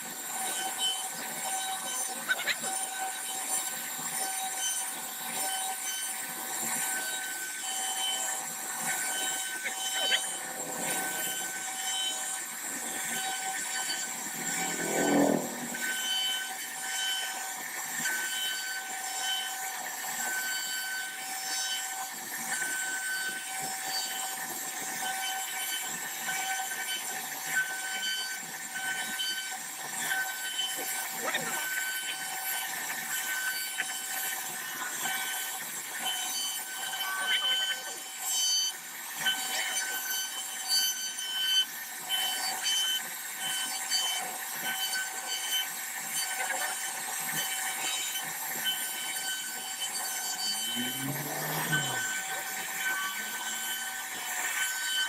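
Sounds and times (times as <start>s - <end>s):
cnc router spindle whine: 0.0s - 55.0s.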